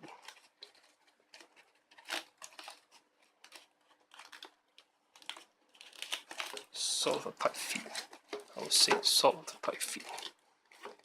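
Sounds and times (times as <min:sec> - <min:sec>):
hose crinkling and clicking: 0:00.0 - 0:11.0.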